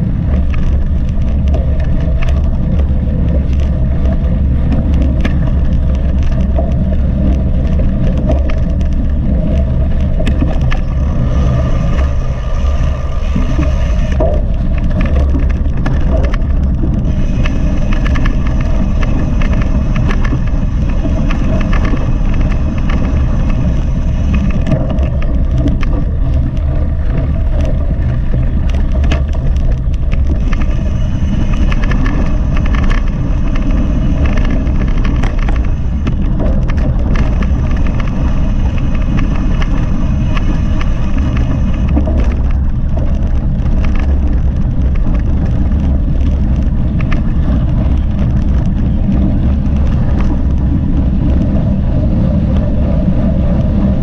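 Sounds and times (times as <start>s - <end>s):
bike clicks and rattles: 0.0s - 54.0s
wind and tyres rumble: 0.0s - 54.0s.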